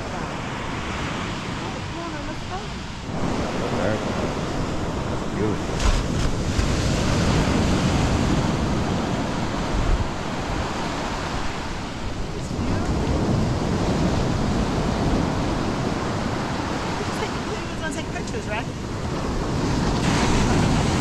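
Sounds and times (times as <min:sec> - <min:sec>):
ocean surf washing onto beach: 0:00.0 - 0:21.0
wind rumbling on microphone: 0:00.0 - 0:21.0.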